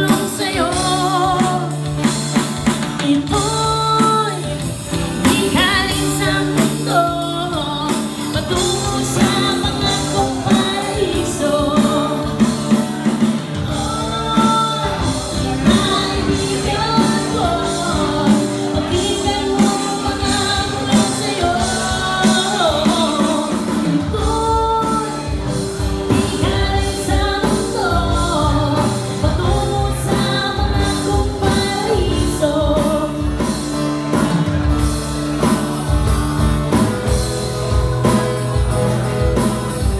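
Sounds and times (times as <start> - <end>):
woman singing into microphone: 0.0 - 34.4
percussion beat: 0.0 - 39.9
strummed acoustic guitar: 0.0 - 39.9.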